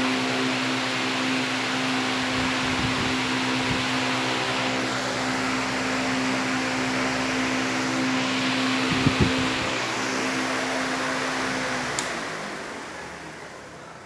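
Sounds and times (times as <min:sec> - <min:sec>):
fan running: 0:00.0 - 0:14.0.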